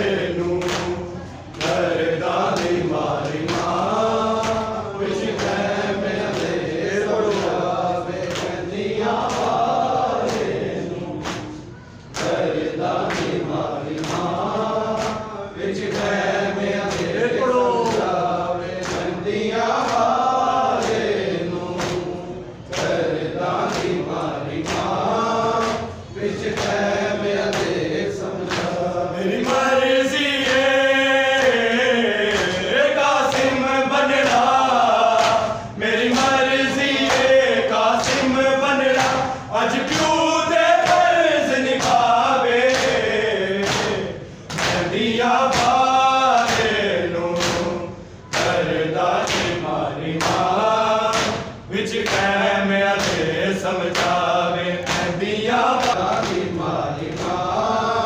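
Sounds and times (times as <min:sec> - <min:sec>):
men chanting in chorus: 0:00.0 - 0:58.0.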